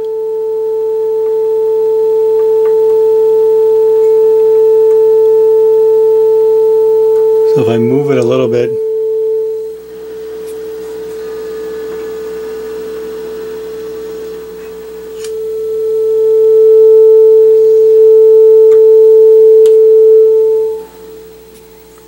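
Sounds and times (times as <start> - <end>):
steady test tone through radio speaker: 0.0 - 22.0.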